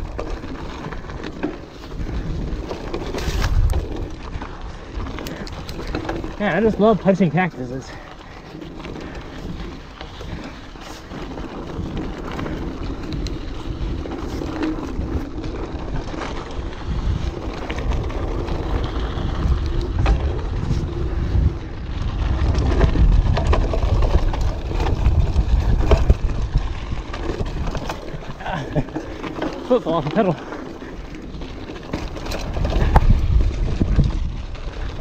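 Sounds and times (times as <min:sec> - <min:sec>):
wind on camera microphone: 0:00.0 - 0:06.7, 0:08.4 - 0:29.5, 0:31.0 - 0:35.0
mountain bike rattling on rocks: 0:00.0 - 0:35.0.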